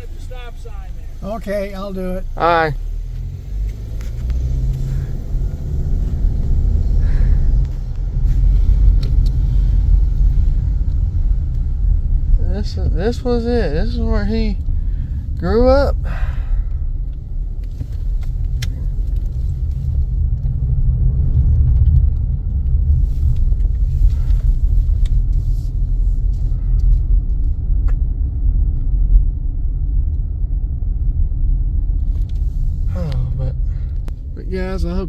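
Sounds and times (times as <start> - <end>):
car interior road and engine rumble: 0.0 - 35.0.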